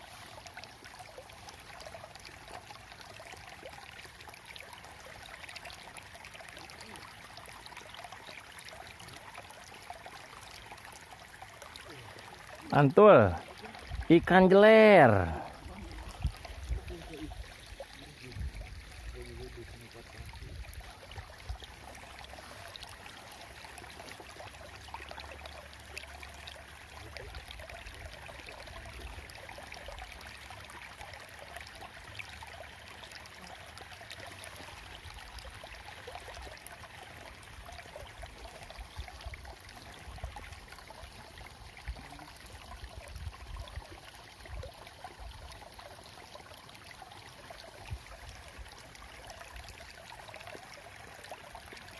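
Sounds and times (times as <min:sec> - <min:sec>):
water flowing and trickling: 0:00.0 - 0:51.9.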